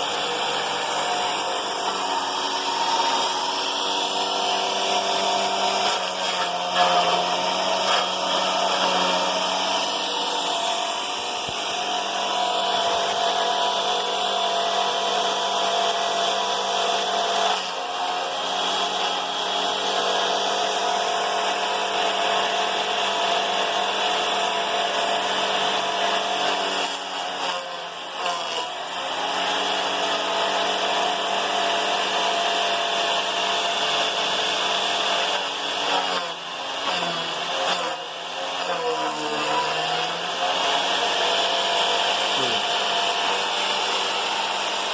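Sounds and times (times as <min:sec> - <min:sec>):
wood chipper motor whine: 0:00.0 - 0:44.9.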